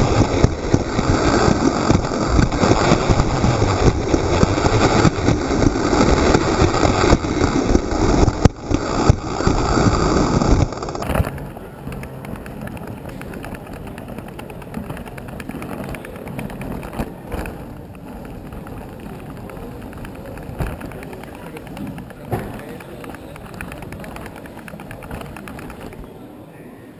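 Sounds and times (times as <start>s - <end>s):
toy coaster car rattling on track: 0.0s - 26.1s
steady background hum: 0.0s - 26.9s.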